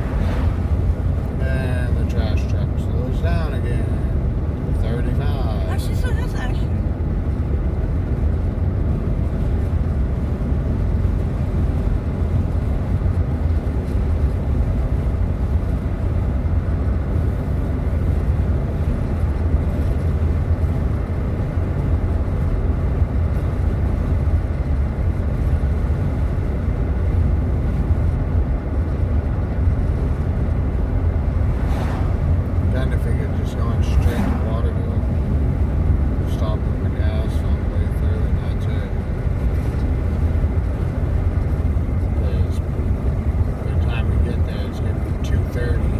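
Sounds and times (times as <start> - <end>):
road and engine rumble in cabin: 0.0 - 45.9.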